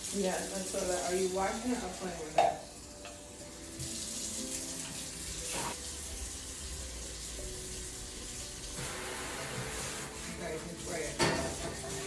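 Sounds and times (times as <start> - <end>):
water running into sink: 0.0 - 12.0.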